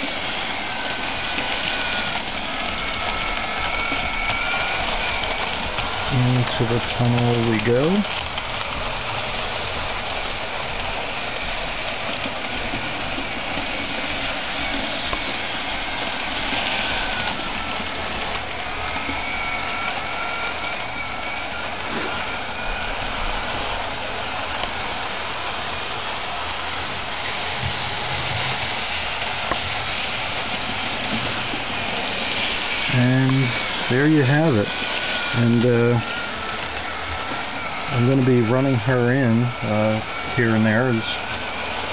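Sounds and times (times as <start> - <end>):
faint motor whine: 0.0 - 41.9
model train motor whirring: 0.0 - 41.9
wheel rumble: 0.0 - 41.9.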